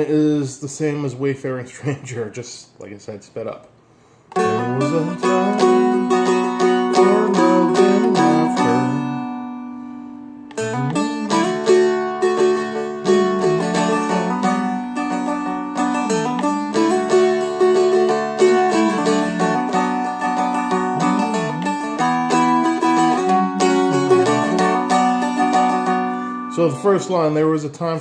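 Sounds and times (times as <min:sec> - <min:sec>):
dulcimer strumming with drone: 0:04.3 - 0:27.0.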